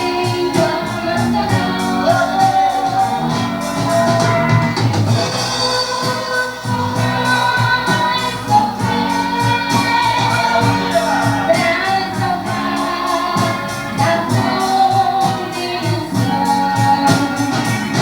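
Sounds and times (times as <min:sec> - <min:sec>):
drum kit beat: 0:00.0 - 0:18.0
gospel band music: 0:00.0 - 0:18.0
woman singing: 0:00.0 - 0:18.0.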